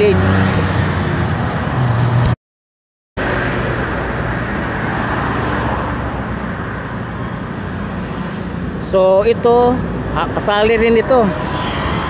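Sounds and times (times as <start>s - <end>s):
road traffic passing: 0.0s - 2.4s, 3.2s - 12.0s.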